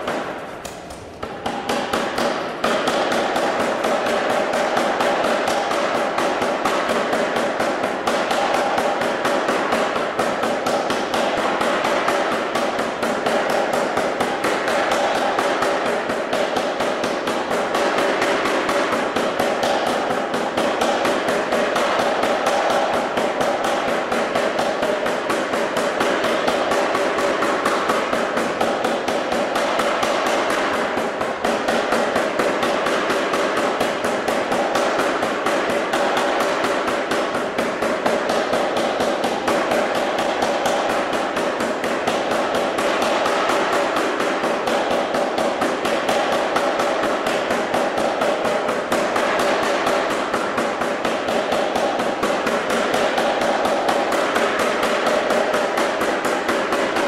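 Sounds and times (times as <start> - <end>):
power hammer pounding steel: 0.0 - 57.0.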